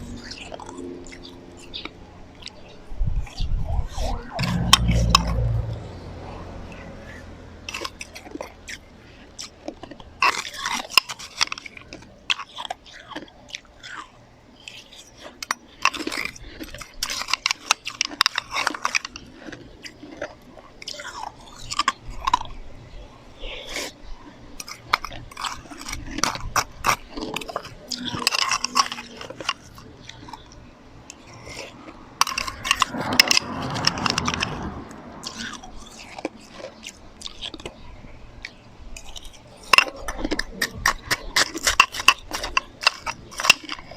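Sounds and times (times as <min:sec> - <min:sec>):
crunching and chewing ice: 0:00.0 - 0:43.9.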